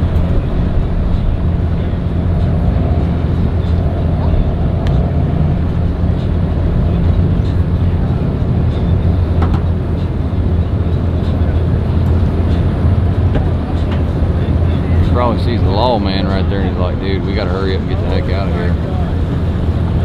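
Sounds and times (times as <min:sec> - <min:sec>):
engines idling: 0:00.0 - 0:20.0.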